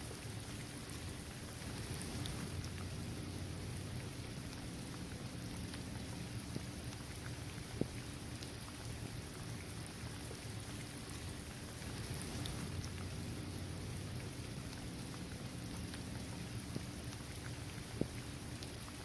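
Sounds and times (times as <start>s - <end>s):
raindrops pattering: 0.0s - 19.0s
steady rain: 0.0s - 19.0s.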